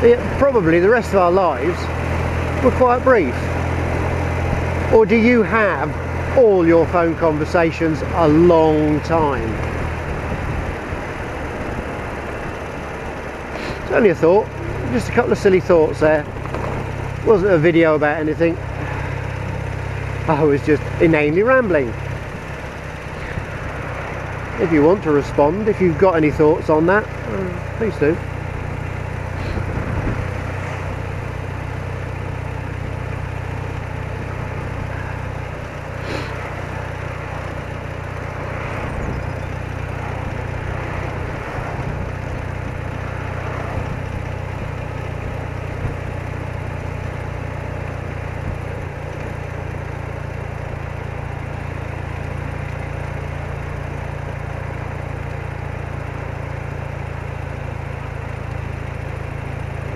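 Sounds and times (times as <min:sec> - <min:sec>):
motorcycle engine droning: 0:00.0 - 0:59.9
wind and road noise: 0:00.0 - 0:59.9.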